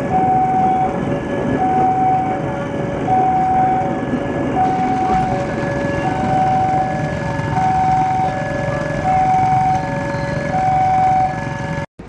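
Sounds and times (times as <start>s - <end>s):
train coaches rumbling on rails: 0.0s - 11.8s
level-crossing two-tone alarm: 0.0s - 11.9s.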